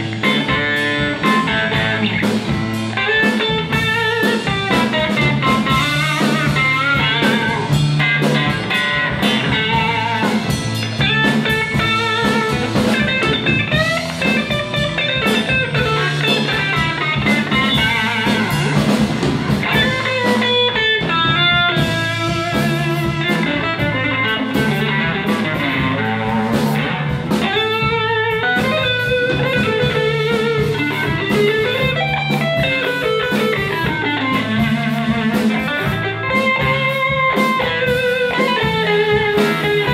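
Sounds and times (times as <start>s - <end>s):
blues band playing: 0.0s - 39.9s
electric lead guitar: 0.0s - 39.9s.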